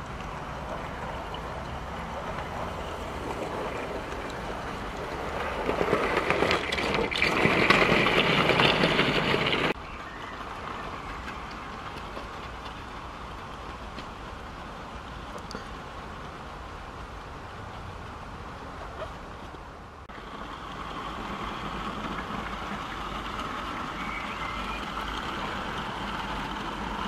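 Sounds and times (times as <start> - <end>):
model train wheels clicking: 0.0 - 18.2, 19.5 - 27.0.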